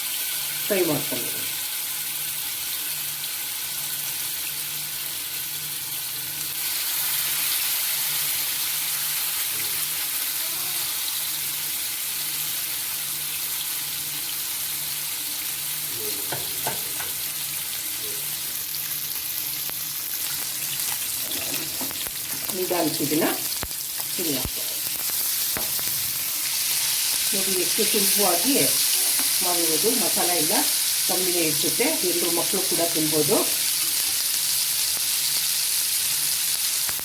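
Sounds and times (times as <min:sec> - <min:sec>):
fish sizzling in oil: 0:00.0 - 0:37.0.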